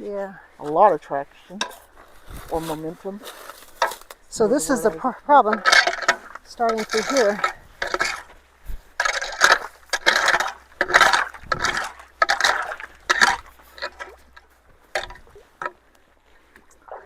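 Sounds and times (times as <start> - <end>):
dry leaves and sticks crunching: 0.6 - 16.7.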